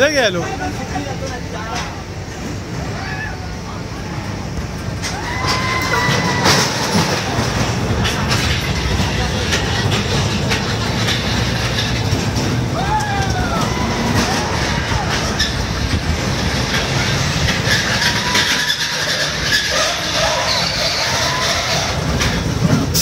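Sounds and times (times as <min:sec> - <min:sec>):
roller coaster wheels rolling on rails: 0:00.0 - 0:23.0.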